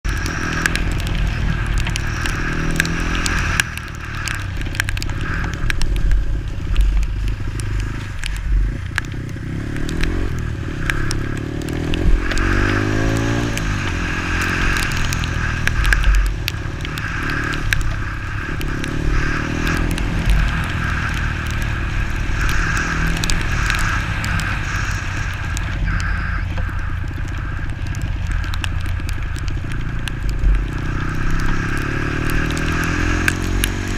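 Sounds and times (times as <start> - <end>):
motorcycle engine running: 0.0 - 33.9
road and wind noise: 0.0 - 33.9
small clicks: 0.1 - 33.9.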